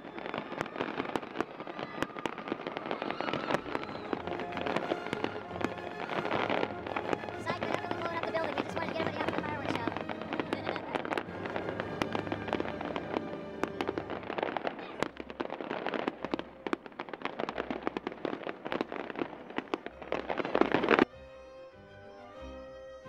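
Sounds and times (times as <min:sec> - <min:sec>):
fireworks bangs and crackles: 0:00.0 - 0:21.1
music: 0:03.6 - 0:23.0.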